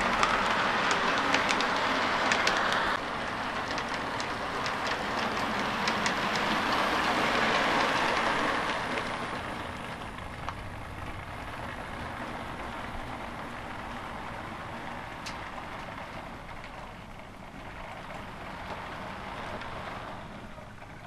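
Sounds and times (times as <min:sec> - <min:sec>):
model train rumbling on track: 0:00.0 - 0:21.0
wheel clicks over rail joints: 0:00.0 - 0:21.0.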